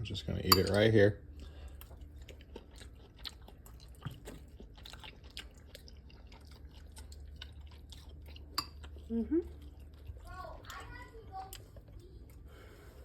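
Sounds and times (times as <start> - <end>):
low steady hum: 0.0 - 13.0
chewing and lip-smacking: 1.2 - 12.9.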